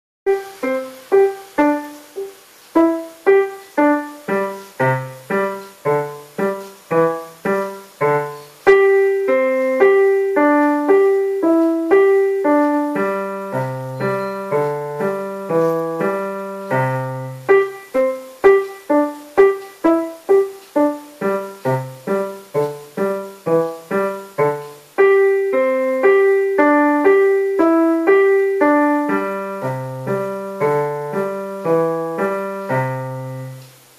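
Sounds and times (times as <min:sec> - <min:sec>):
piano playing: 0:00.3 - 0:33.9.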